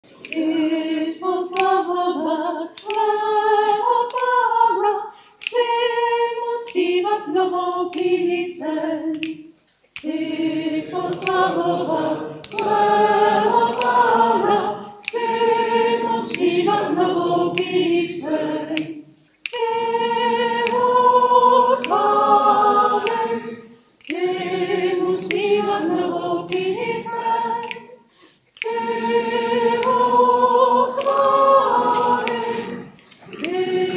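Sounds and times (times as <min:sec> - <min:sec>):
choir singing a cappella: 0:00.0 - 0:33.9.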